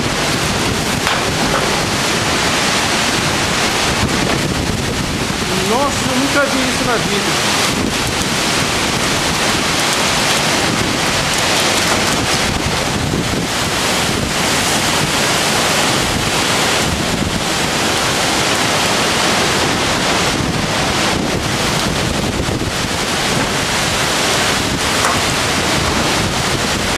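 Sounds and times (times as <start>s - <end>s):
driving rain: 0.0s - 26.9s
wind buffeting microphone: 0.0s - 26.9s
wind rushing: 0.0s - 26.9s.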